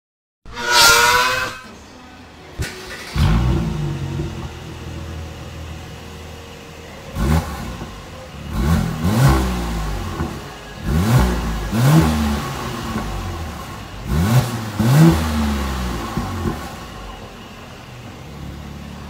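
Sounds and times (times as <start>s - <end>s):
car engine revving: 0.5s - 19.0s.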